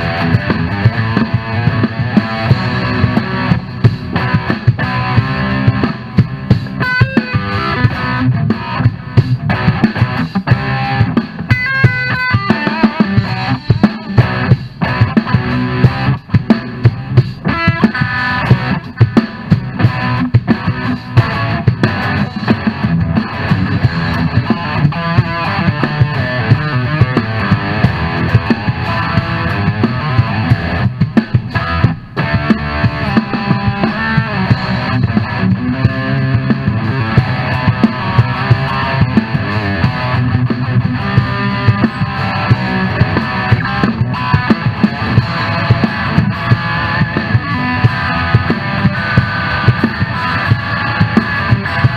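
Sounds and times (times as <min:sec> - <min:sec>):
drum kit: 0:00.0 - 0:51.9
electric guitar lead lines: 0:00.0 - 0:51.9.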